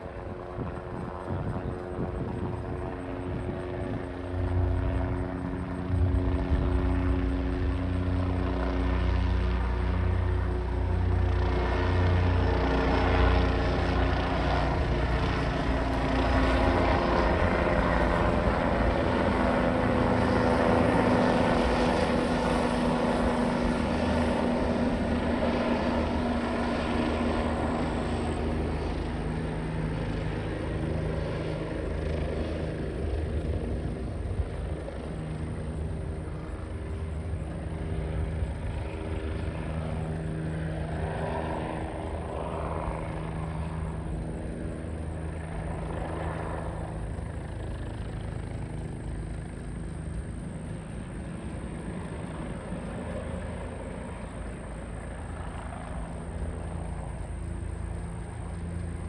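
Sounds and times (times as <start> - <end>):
helicopter flying past low: 0.0 - 59.0.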